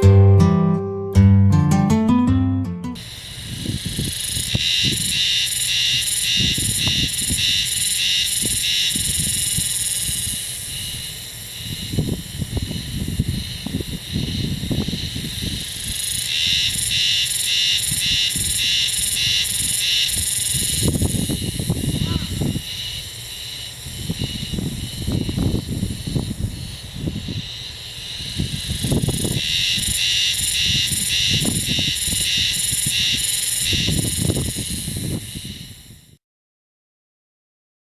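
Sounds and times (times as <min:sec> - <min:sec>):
cicada pulsing call: 0:03.0 - 0:36.2
wind rumble on microphone: 0:03.4 - 0:17.1, 0:17.8 - 0:36.2.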